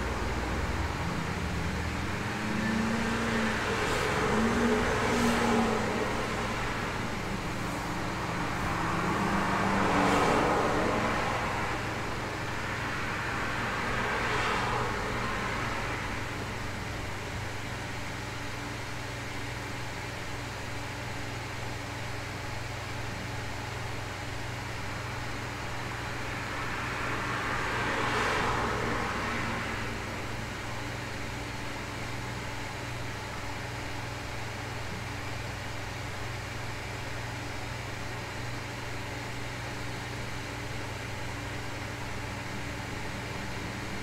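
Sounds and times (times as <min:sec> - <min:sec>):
cars passing by: 0:00.0 - 0:20.1, 0:23.1 - 0:44.0.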